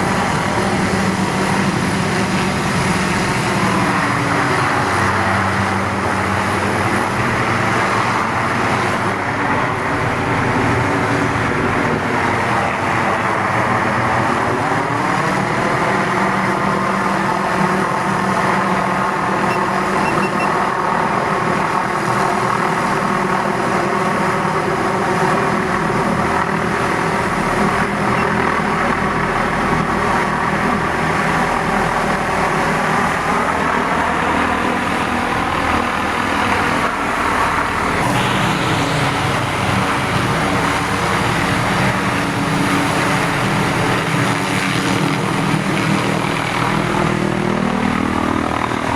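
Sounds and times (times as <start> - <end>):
helicopter flying: 0.0 - 48.9.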